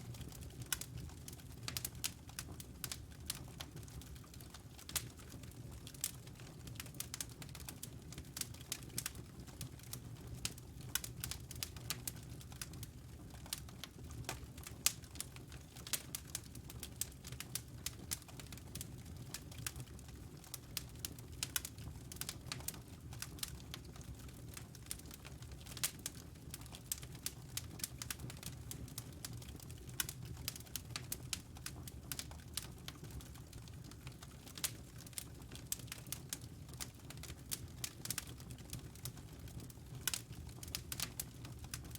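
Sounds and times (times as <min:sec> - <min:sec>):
wood fire crackling: 0:00.1 - 0:41.9.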